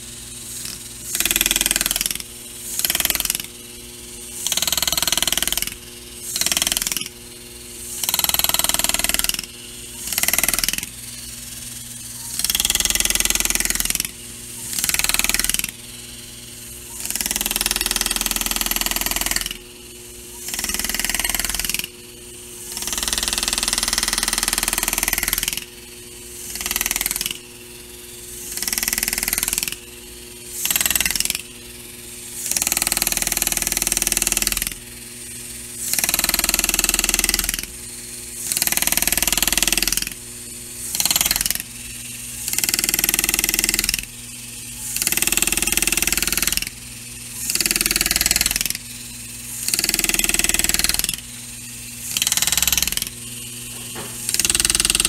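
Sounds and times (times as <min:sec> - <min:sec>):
pneumatic engraver cutting metal: 0:00.0 - 0:55.0.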